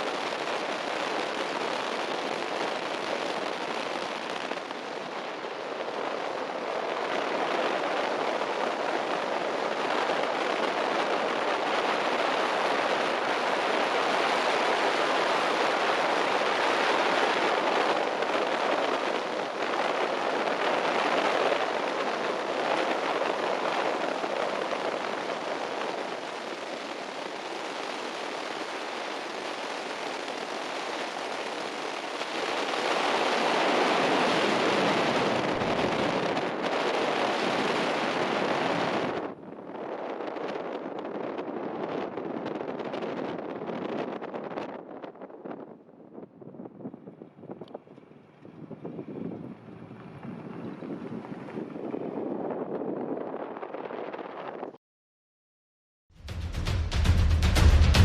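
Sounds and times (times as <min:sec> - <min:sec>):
wind and tyre noise on dirt: 0:00.0 - 0:54.8.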